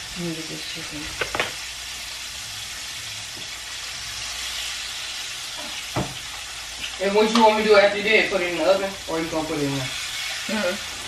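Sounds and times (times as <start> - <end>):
butter sizzling in frying pan: 0.0 - 11.0.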